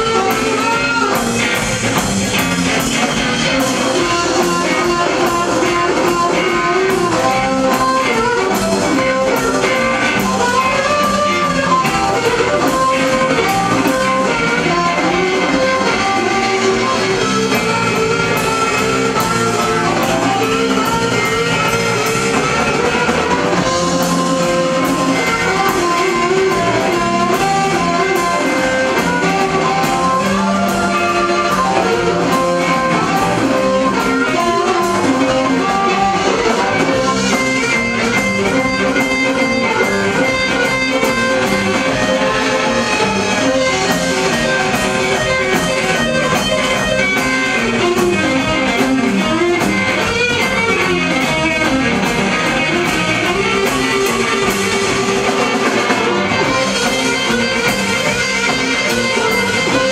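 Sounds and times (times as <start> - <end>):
bass guitar: 0.0 - 59.9
drum kit steady beat: 0.0 - 59.9
electric guitar: 0.0 - 59.9
harmonica: 0.0 - 59.9.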